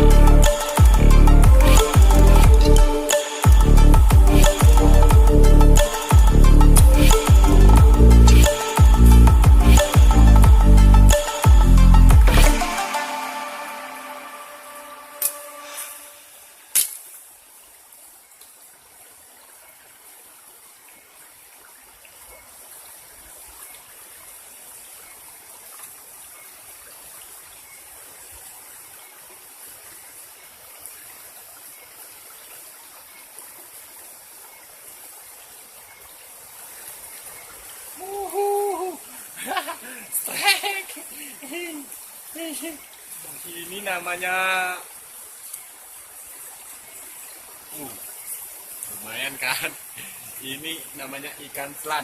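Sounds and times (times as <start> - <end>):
flowing river water: 0.0 - 52.0.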